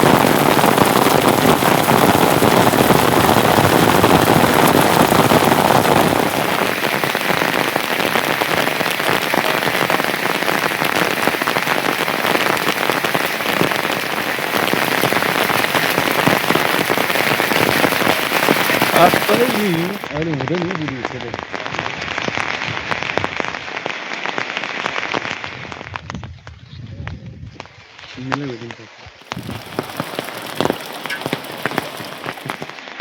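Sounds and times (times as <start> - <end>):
heavy rain falling: 0.0 - 26.0, 29.2 - 33.0.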